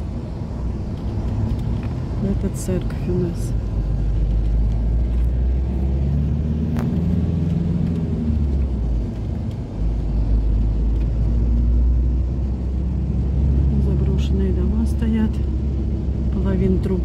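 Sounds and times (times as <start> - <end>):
road and engine rumble inside vehicle: 0.0 - 17.0.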